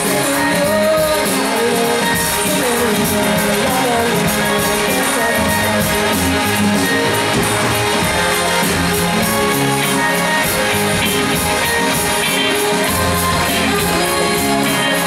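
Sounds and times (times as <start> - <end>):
rock band playing: 0.0 - 15.0
steady cymbal beat: 0.0 - 15.0.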